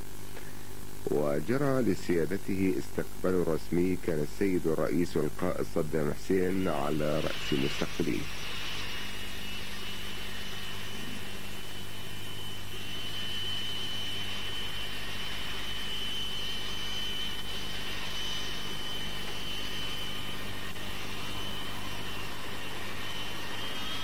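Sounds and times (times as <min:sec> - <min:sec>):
jet engines whining: 0:01.0 - 0:24.0.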